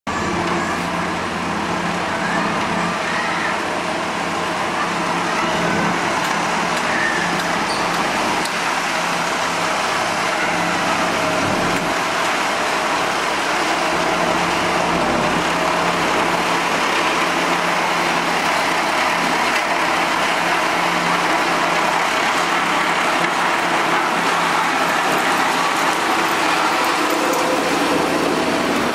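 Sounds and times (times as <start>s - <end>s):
heavy machinery engines running: 0.1s - 28.9s.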